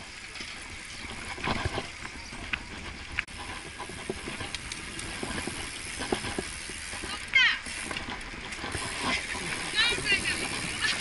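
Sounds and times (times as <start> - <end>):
bicycle clicks and knocks: 0.3 - 11.0.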